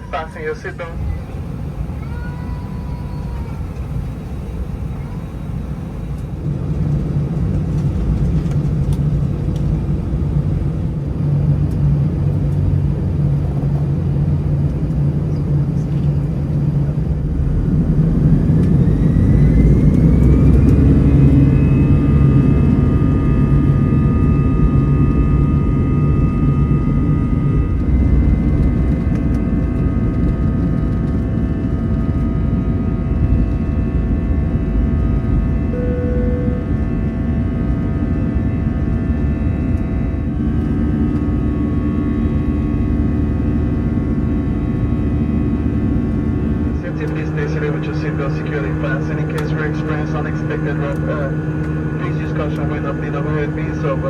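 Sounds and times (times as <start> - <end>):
jet engine rumble in cabin: 0.0 - 54.0
jet engine whine spooling up: 0.0 - 54.0.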